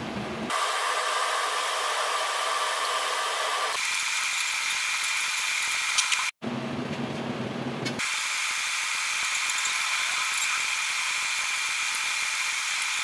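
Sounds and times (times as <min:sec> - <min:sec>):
food sizzling in a wok: 0:00.5 - 0:06.3, 0:08.0 - 0:13.0.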